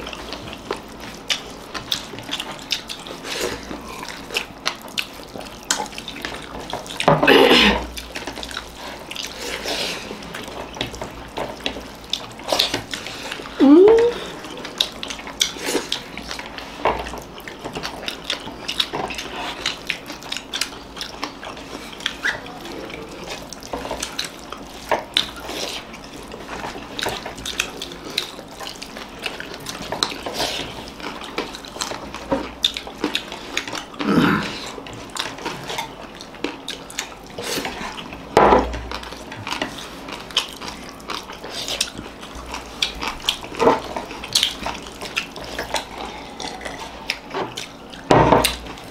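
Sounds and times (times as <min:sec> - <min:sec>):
wet mixing and mouth sounds: 0:00.0 - 0:48.9.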